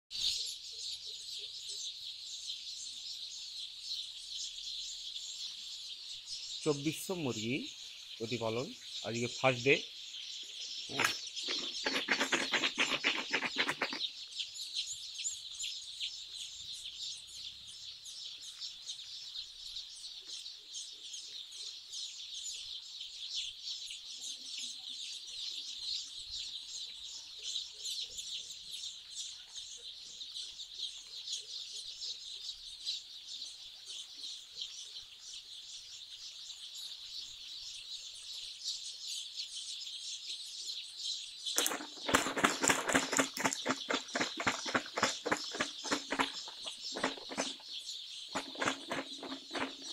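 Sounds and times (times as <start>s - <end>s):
chicks peeping: 0.1s - 49.9s.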